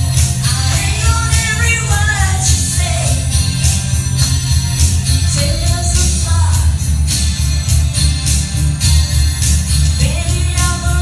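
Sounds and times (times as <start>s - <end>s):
live pop-rock music: 0.0s - 11.0s.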